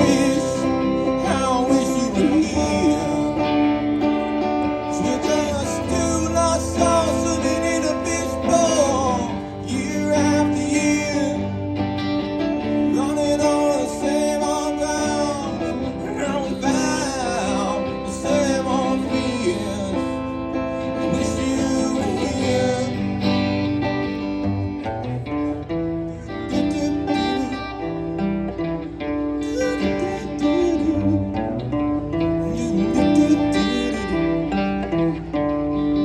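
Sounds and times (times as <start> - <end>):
guitar playing chords: 0.0 - 36.0
man singing lead vocal: 0.0 - 36.0.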